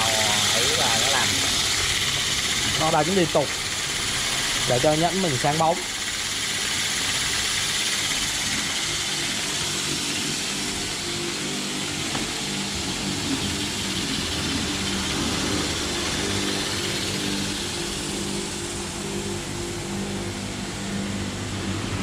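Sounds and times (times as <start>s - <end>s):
polishing machine hissing and humming: 0.0s - 22.0s.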